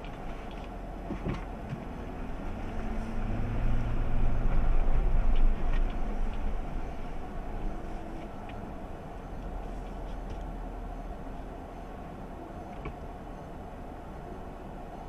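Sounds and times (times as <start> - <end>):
truck engine and tyre rumble: 0.0 - 15.0.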